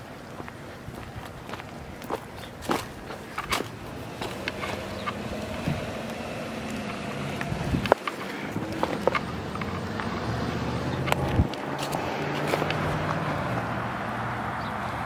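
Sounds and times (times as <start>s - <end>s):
footsteps on gravel: 0.0s - 13.7s
road traffic: 0.0s - 15.0s
vehicle engine humming: 0.0s - 15.0s.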